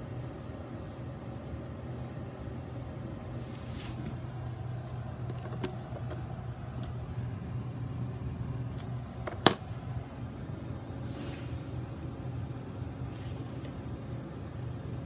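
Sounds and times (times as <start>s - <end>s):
coffee maker humming: 0.0s - 15.0s.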